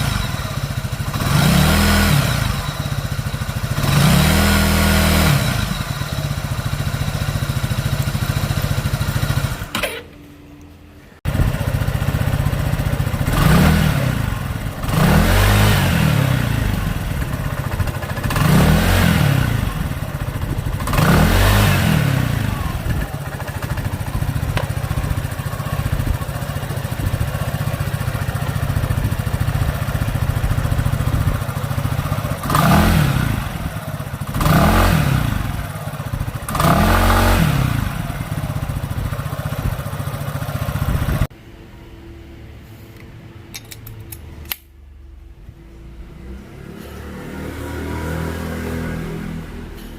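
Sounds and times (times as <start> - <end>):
scooter engine revving: 0.0 - 10.3, 11.3 - 41.3, 46.0 - 49.9.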